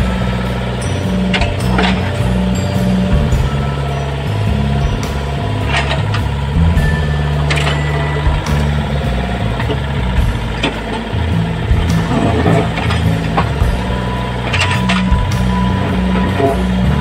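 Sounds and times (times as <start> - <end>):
excavator engine running: 0.0 - 17.0
sharp metallic clanks: 0.0 - 17.0.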